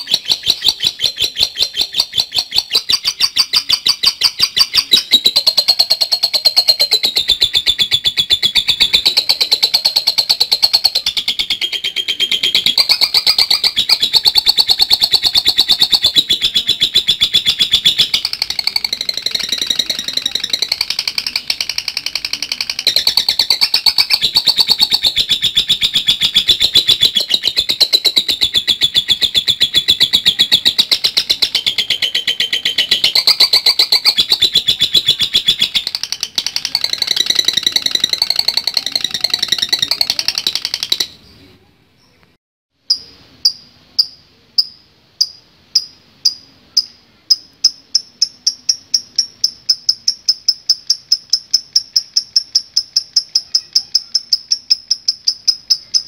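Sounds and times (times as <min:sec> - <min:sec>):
lovebird chattering: 0:00.0 - 0:41.5, 0:42.9 - 0:56.0.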